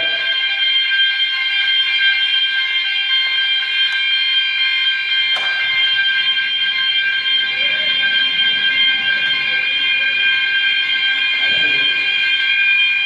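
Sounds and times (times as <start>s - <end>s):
fire alarm high-pitched tone: 0.0s - 13.0s.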